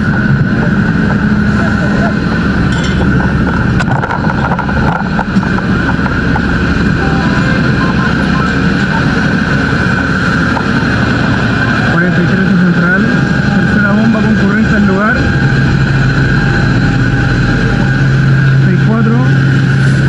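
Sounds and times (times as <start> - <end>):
fire engine running: 0.0 - 20.0
high whine: 0.0 - 20.0.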